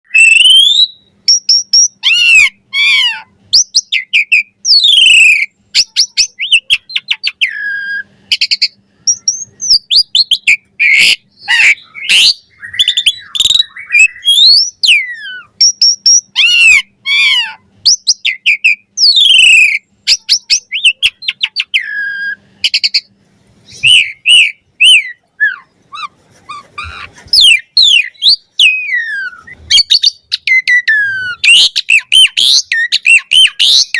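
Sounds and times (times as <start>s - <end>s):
starling singing: 0.1s - 33.9s.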